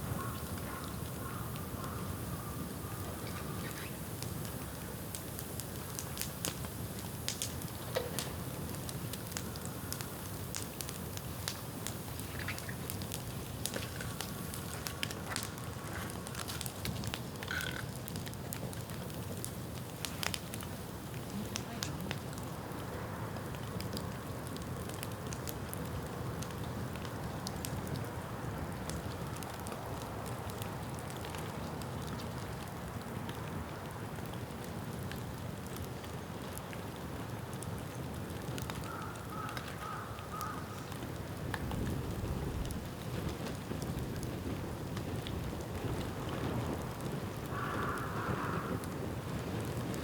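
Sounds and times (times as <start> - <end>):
bamboo bonfire crackling: 0.0 - 50.0.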